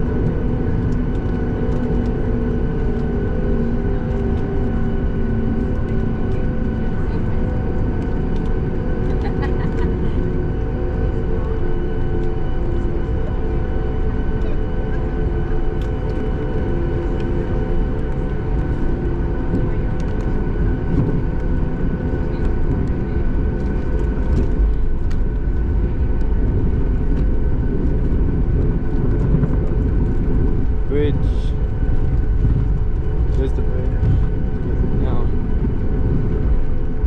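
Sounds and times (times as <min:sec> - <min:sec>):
jet engine hum in cabin: 0:00.0 - 0:37.0.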